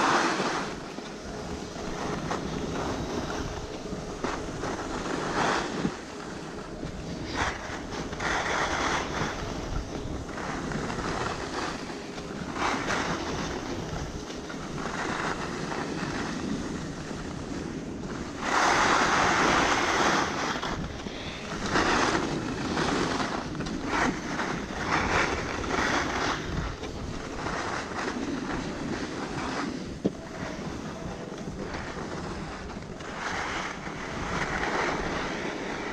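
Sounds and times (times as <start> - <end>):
ski edges scraping snow: 0.0 - 35.9
wind rushing over microphone: 0.0 - 35.9.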